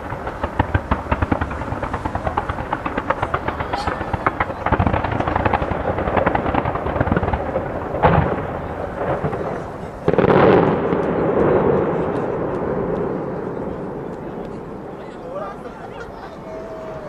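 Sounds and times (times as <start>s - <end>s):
fireworks bangs: 0.0s - 16.8s
fireworks crackling: 0.0s - 17.0s.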